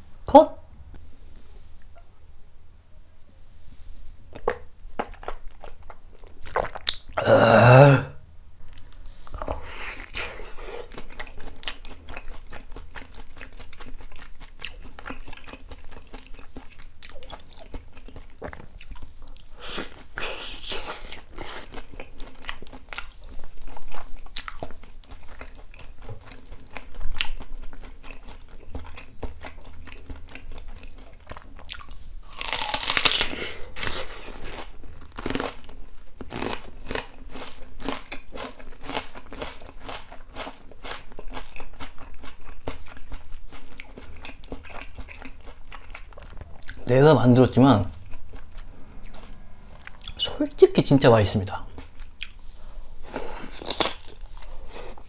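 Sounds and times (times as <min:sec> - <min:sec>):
crunching and chewing fried food: 0:04.3 - 0:07.2, 0:08.6 - 0:55.0.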